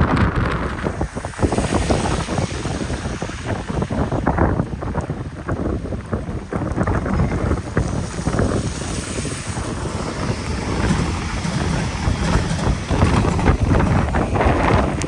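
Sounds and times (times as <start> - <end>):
wind gusting across microphone: 0.0 - 15.0.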